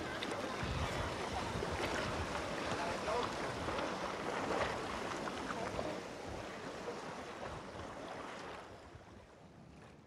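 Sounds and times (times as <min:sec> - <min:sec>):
shallow water lapping: 0:00.0 - 0:10.0
wind: 0:00.0 - 0:10.0.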